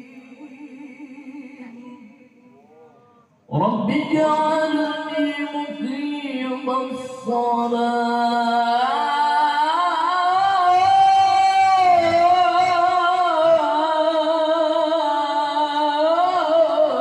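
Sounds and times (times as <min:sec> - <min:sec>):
man chanting through a microphone: 0:02.6 - 0:17.0.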